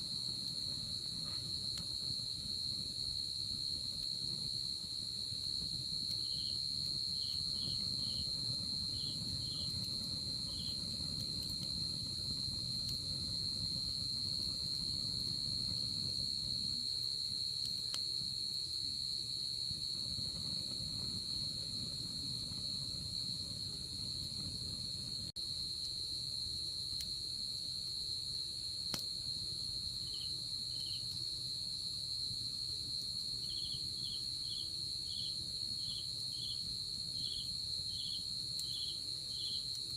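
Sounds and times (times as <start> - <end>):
insect chirps: 0.0 - 39.9
insects trilling: 0.1 - 39.9.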